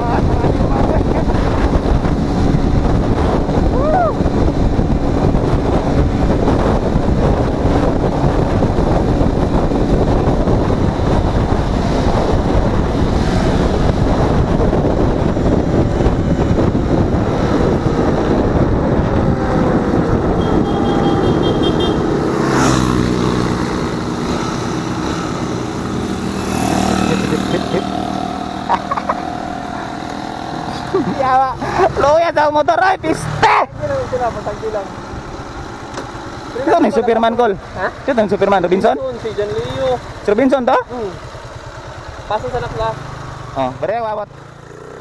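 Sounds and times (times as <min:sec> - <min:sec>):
wind rushing over microphone: 0:00.0 - 0:42.3
motorcycle engine running: 0:00.0 - 0:45.0.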